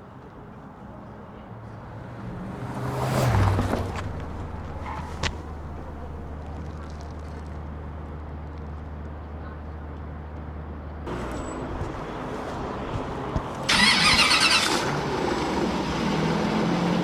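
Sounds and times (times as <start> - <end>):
low engine hum: 0.9 - 17.0
motor vehicle passing: 1.4 - 9.6, 11.1 - 17.0.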